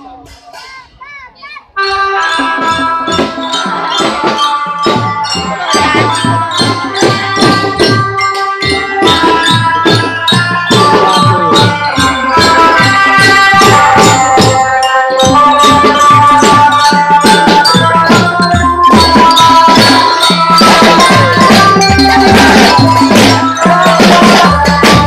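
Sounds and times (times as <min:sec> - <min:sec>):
steady drum beat: 0:00.0 - 0:25.0
glockenspiels ringing: 0:01.8 - 0:25.0.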